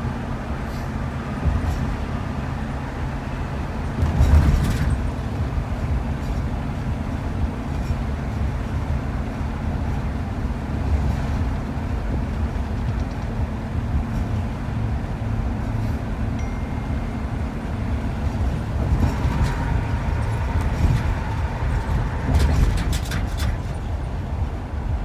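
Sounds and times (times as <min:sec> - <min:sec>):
van road and engine rumble: 0:00.0 - 0:25.0
vehicle jolt: 0:00.5 - 0:16.4, 0:17.1 - 0:25.0.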